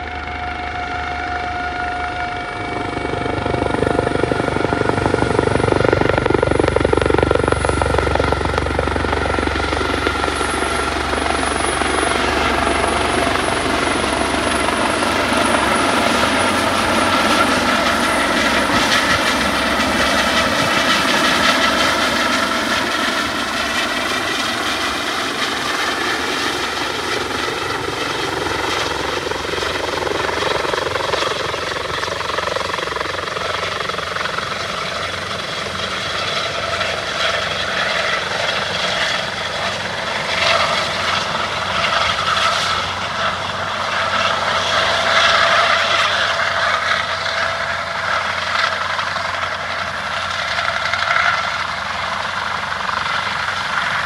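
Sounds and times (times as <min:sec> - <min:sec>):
helicopter rotor noise: 0:00.0 - 0:54.0
turbine whine: 0:00.0 - 0:54.0.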